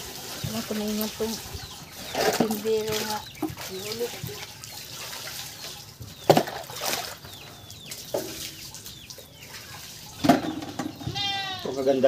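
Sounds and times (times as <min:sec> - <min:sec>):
water pouring and splashing on metal: 0:00.0 - 0:11.6.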